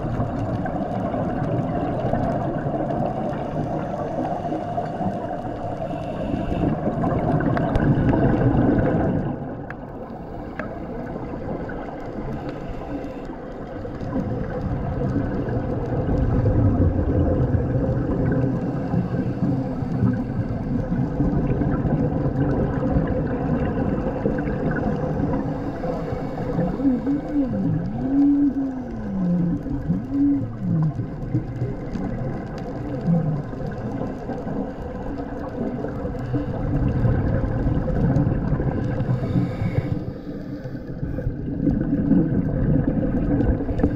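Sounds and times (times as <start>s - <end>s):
regulator bubbles gurgling: 0.0s - 43.9s.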